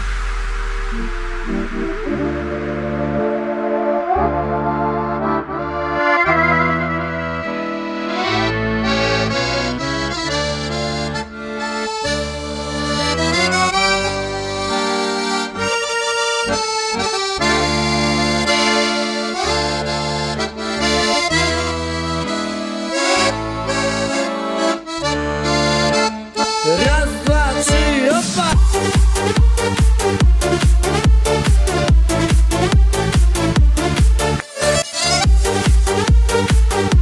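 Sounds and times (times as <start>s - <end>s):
bass line: 0.0s - 37.0s
held chords: 0.0s - 37.0s.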